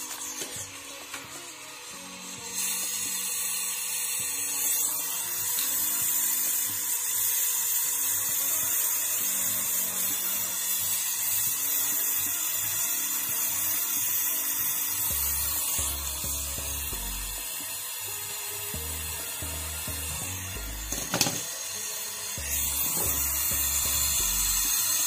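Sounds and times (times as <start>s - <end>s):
gas torch flame hissing: 0.0s - 25.0s
soft background music: 0.0s - 25.0s.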